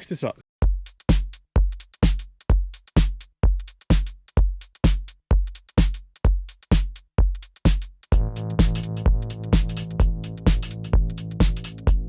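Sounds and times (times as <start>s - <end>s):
drum machine beat: 0.6s - 12.0s.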